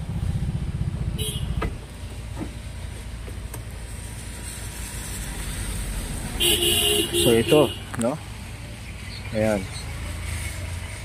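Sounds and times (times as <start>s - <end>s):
rumble of traffic: 0.0s - 11.0s
vehicle engine running close by: 0.0s - 11.0s.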